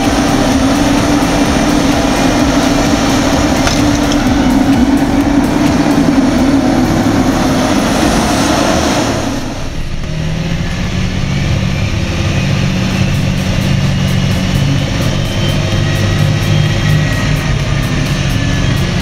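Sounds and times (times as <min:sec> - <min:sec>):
tractor diesel engine running: 0:00.0 - 0:19.0
tractor engine drone from cab: 0:00.0 - 0:19.0.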